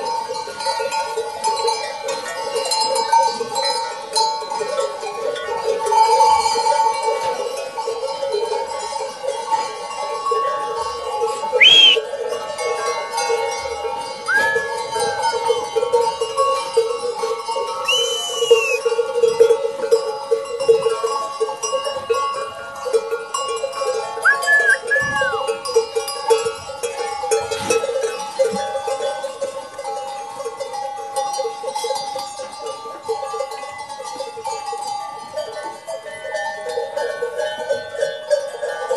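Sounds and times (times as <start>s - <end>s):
sheep bells clanking: 0.0s - 38.9s.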